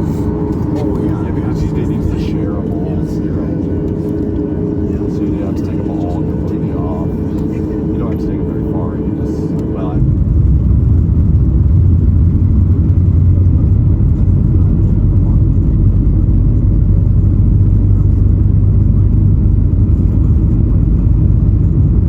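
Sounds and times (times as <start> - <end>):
jet airliner cabin rumble: 0.0 - 22.0.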